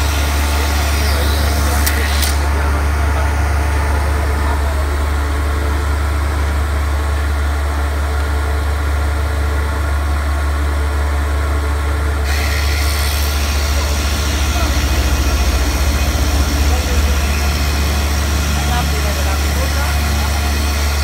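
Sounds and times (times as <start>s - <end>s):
woodworking machine motor hum: 0.0s - 21.0s.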